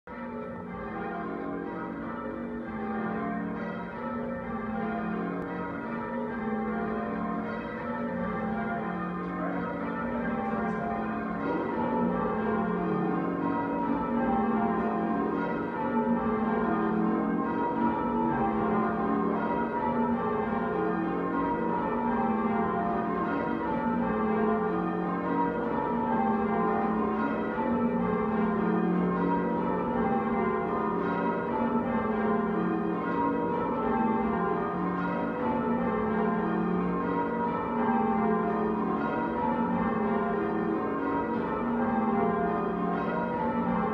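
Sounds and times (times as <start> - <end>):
church bells change ringing: 0.1 - 43.9.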